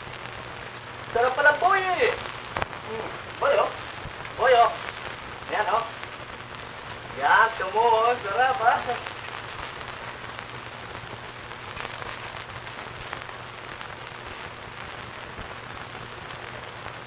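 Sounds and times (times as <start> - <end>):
film soundtrack hiss and crackles: 0.0 - 17.0.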